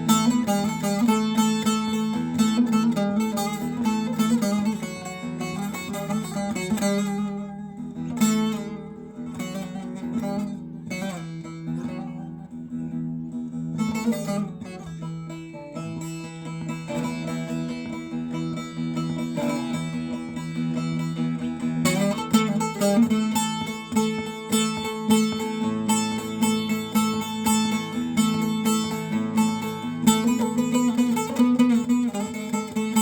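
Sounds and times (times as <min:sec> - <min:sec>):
plucked string instrument melody: 0:00.0 - 0:33.0.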